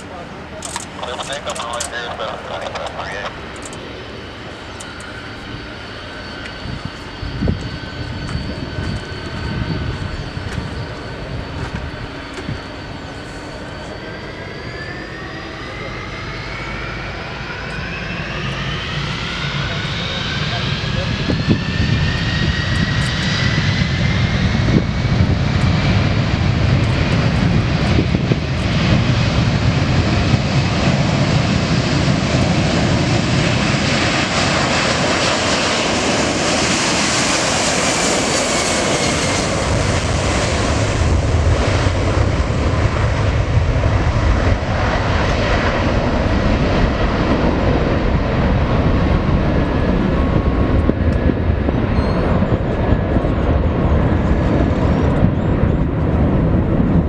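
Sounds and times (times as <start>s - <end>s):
jet engine whine: 0.0s - 57.0s
jet engines roaring: 0.0s - 57.0s.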